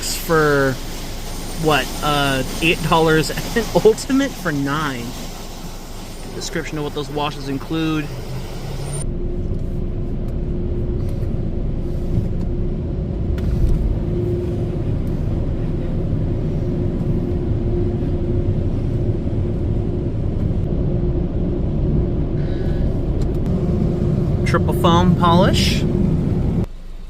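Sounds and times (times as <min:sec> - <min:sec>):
car idling: 0:00.0 - 0:27.0.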